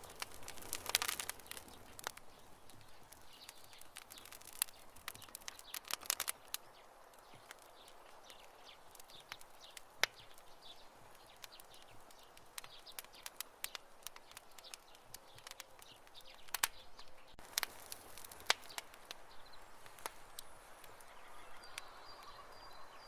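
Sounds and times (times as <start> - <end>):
campfire crackling and popping: 0.0 - 22.9
faint steady hiss: 0.0 - 23.0.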